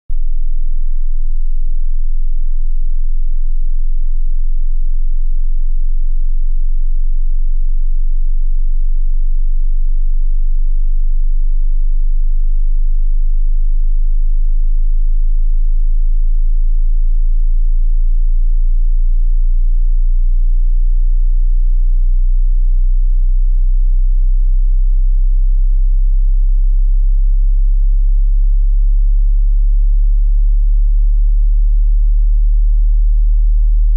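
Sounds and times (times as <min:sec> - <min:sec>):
low sine tone rising: 0:00.1 - 0:33.9.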